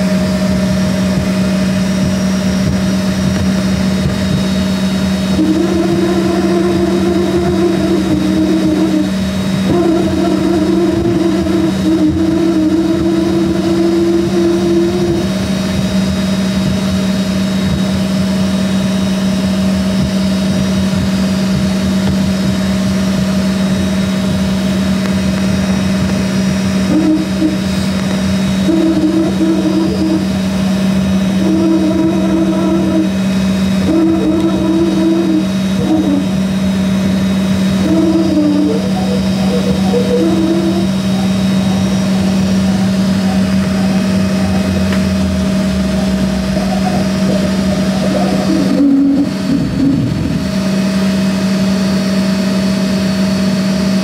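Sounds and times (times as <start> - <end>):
higher hum: 0.0 - 54.0
jet engines humming: 0.0 - 54.0.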